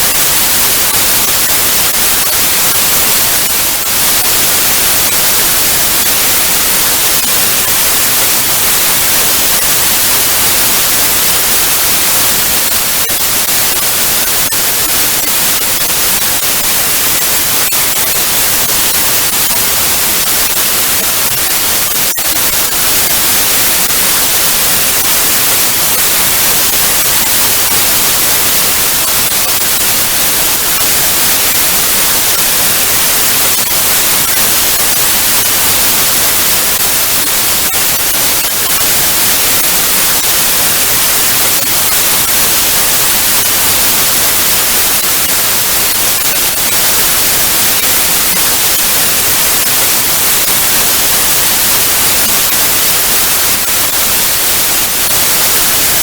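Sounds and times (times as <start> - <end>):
tv static hiss: 0.0 - 56.0.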